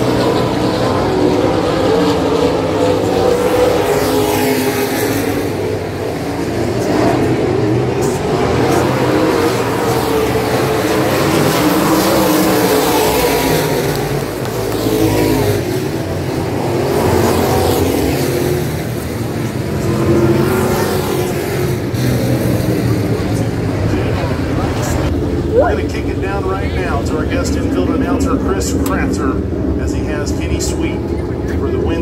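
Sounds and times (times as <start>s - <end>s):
race car engines passing: 0.0s - 32.0s.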